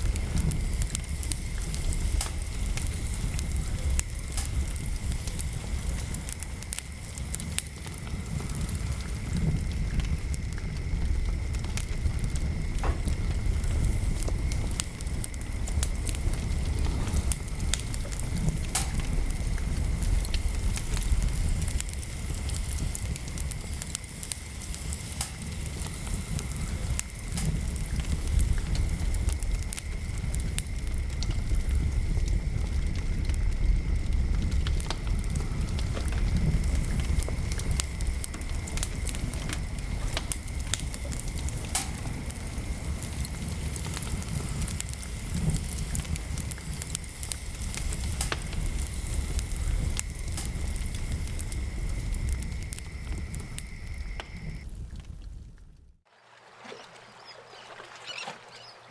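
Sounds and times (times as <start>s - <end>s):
wood fire crackling: 0.0s - 56.1s.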